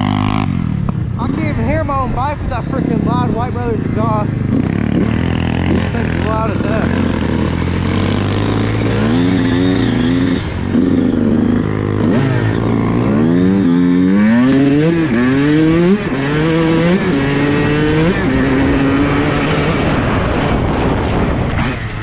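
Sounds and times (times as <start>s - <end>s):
dirt bike engine accelerating: 0.0s - 22.0s.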